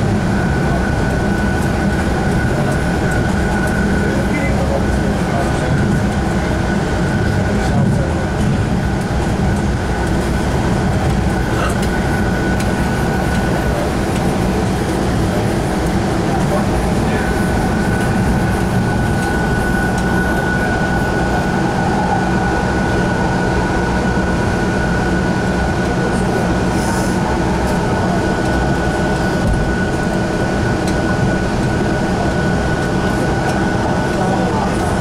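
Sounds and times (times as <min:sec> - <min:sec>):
train interior rumble: 0:00.0 - 0:35.0.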